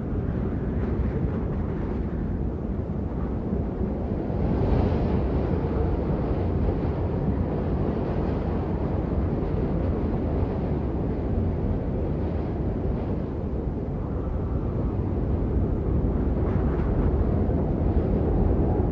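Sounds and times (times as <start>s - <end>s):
blizzard wind roaring: 0.0s - 18.9s.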